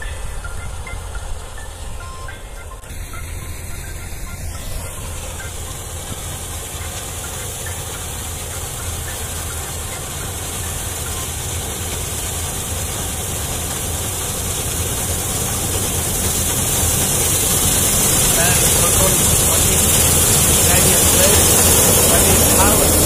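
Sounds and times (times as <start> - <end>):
combine harvester engine drone: 0.0 - 23.0.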